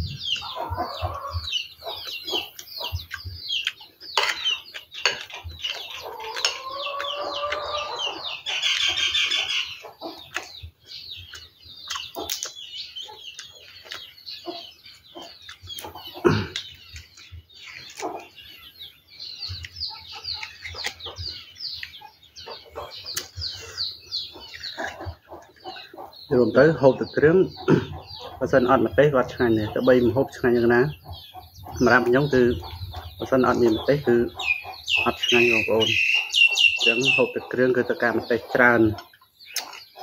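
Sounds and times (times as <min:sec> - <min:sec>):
chickens and birds chirping: 0:00.0 - 0:40.0.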